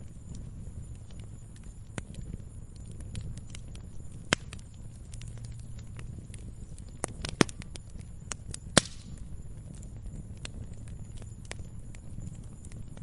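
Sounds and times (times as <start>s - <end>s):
log fire crackling: 0.0s - 13.0s.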